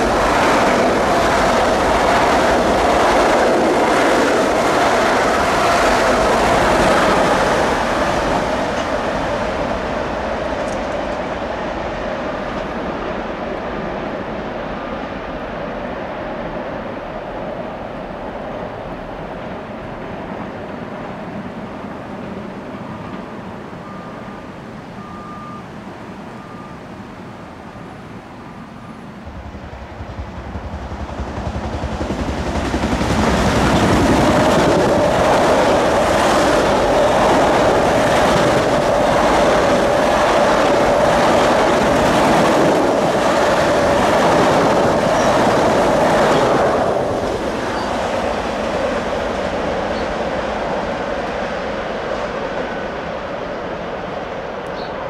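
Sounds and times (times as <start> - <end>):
electric train passing: 0.0 - 55.0.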